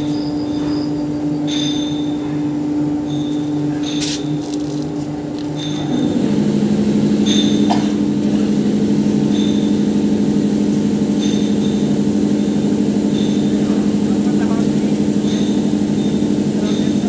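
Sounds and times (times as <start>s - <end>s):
deeper motor hum: 0.0s - 17.0s
workshop machinery motor hum: 0.0s - 17.0s.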